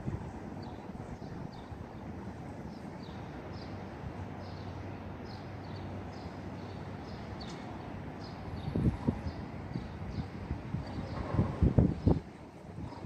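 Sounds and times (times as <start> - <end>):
low city hum: 0.0 - 13.0
small birds chirping: 0.5 - 13.0.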